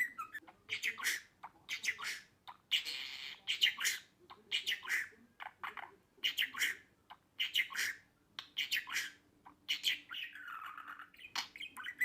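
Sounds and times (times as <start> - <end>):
budgerigar chirping and chattering: 0.0 - 12.0.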